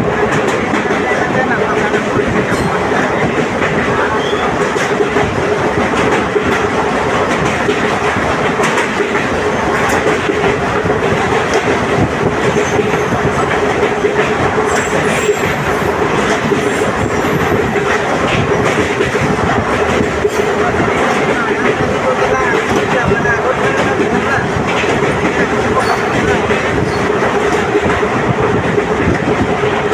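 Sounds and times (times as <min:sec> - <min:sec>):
passenger train running on track: 0:00.0 - 0:29.9.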